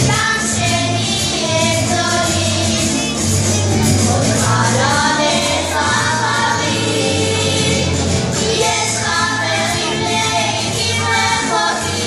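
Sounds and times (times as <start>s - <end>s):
amplified backing music: 0.0s - 12.0s
children singing in unison: 0.0s - 12.0s.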